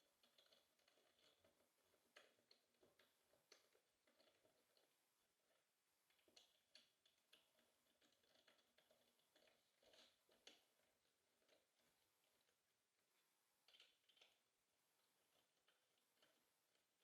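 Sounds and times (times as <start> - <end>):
faint irregular ticks and clicks: 0.0 - 17.0.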